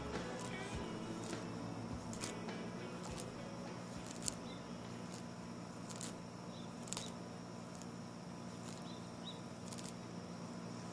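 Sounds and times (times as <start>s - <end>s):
steady low hum: 0.0s - 10.9s
tortoise biting leaves: 0.0s - 10.9s.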